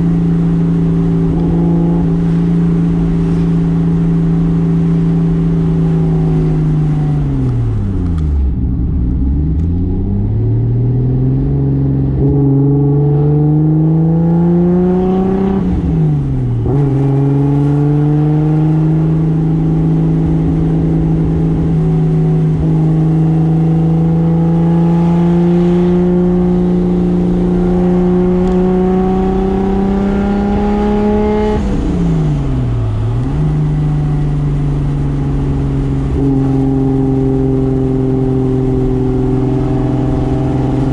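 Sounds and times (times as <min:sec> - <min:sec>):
car engine revving hard: 0:00.0 - 0:07.8, 0:09.6 - 0:40.9.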